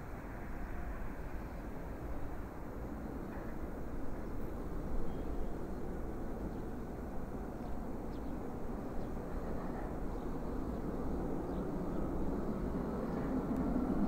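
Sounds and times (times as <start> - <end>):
low jet rumble: 0.8 - 14.0.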